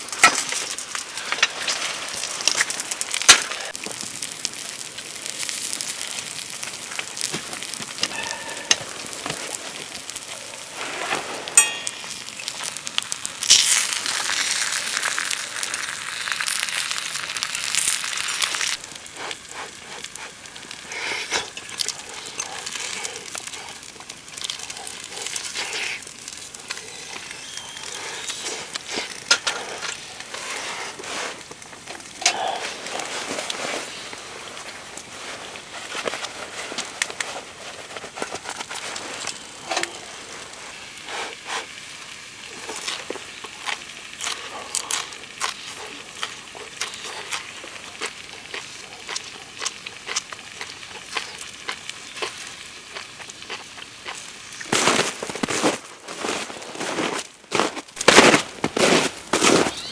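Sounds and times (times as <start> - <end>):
food sizzling in a pan: 0.0 - 55.5, 58.2 - 59.9.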